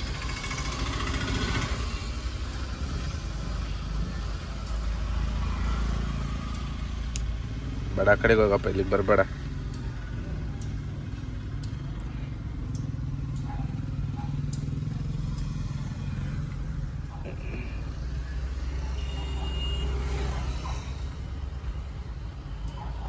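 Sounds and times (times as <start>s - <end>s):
engines rumbling: 0.0s - 23.0s.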